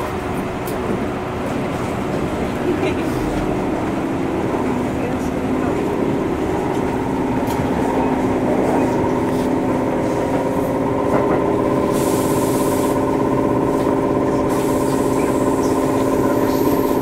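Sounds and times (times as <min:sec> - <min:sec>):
electric train motor hum: 0:00.0 - 0:17.0
wheels rumbling on rail: 0:00.0 - 0:17.0.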